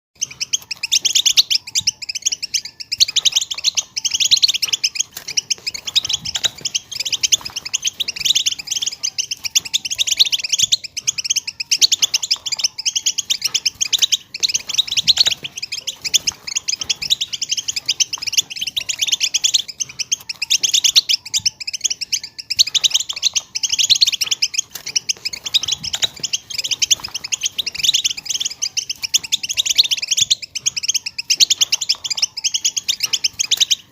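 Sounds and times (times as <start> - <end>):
goldfinches twittering: 0.2 - 33.9.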